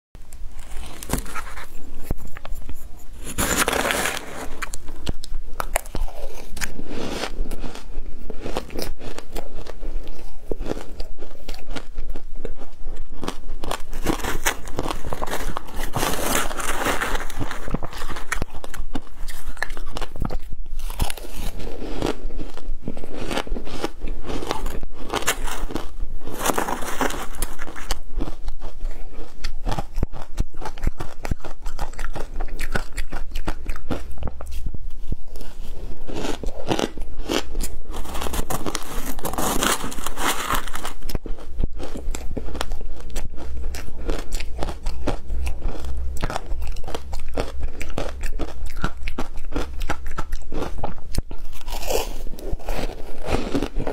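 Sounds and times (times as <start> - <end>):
crunching shaved ice: 0.5 - 34.5, 35.4 - 53.9.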